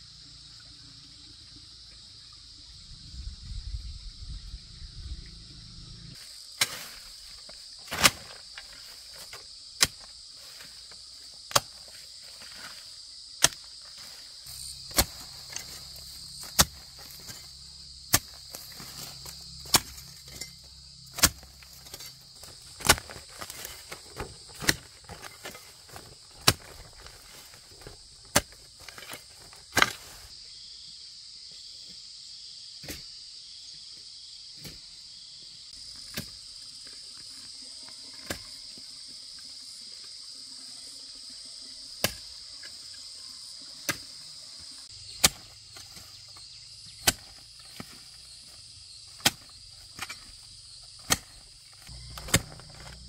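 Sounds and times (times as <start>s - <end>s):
insect chorus: 0.0s - 53.0s.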